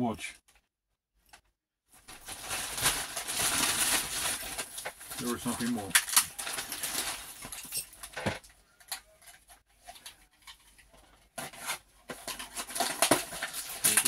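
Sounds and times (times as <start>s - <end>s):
plastic packaging rustling: 2.0s - 14.0s.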